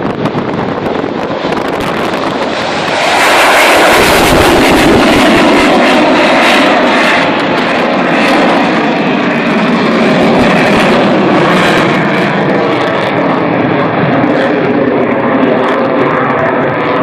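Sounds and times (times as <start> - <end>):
airplane flying past: 0.0 - 17.0.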